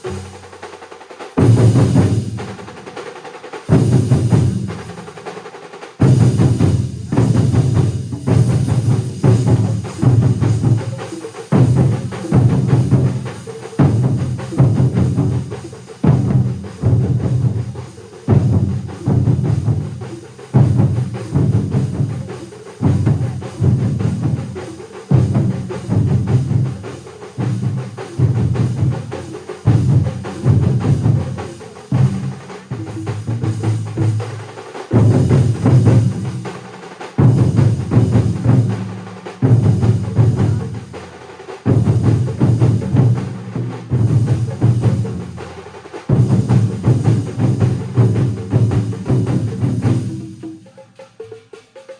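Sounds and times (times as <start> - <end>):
clatter of lighter drum beats: 0.0 - 51.9
drum ensemble playing: 0.0 - 51.9
heavy booming drum strokes: 1.4 - 50.7.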